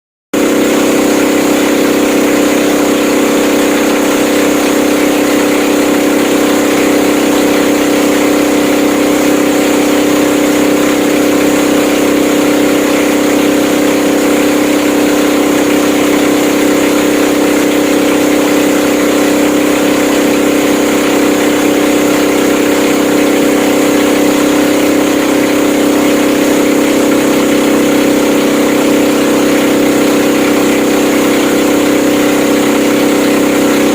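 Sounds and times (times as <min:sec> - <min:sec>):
motorboat engine droning: 0:00.3 - 0:33.9.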